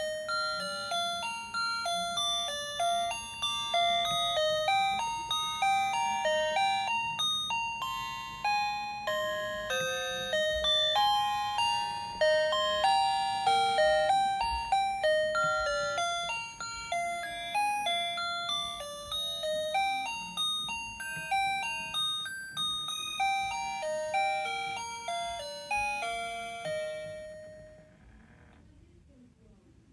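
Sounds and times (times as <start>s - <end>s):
tinkly electronic chime tune: 0.0s - 27.8s.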